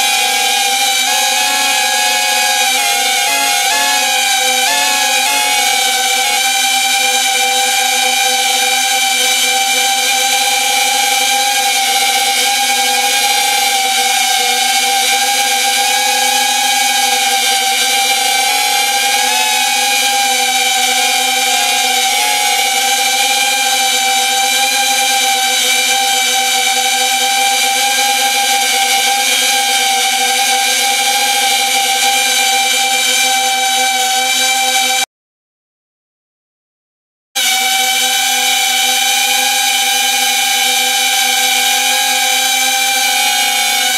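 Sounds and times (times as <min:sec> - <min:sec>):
drone propellers whining: 0:00.0 - 0:35.0, 0:37.4 - 0:43.9.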